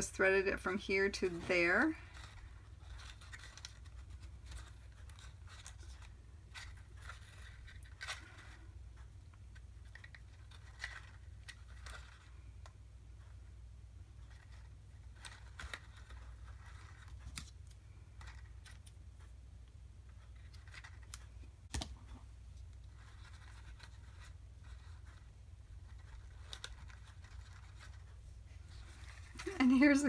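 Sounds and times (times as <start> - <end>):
paper rustling: 1.2 - 12.5, 14.2 - 19.0, 20.1 - 30.0.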